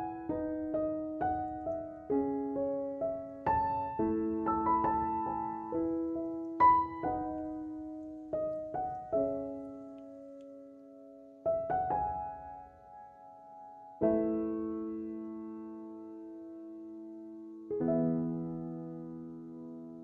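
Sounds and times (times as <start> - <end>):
slow piano music: 0.0 - 20.0.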